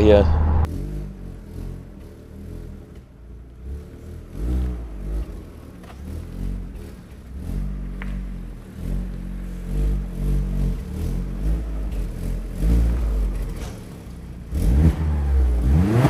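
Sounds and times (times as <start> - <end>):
car engine pulling: 0.0 - 16.0.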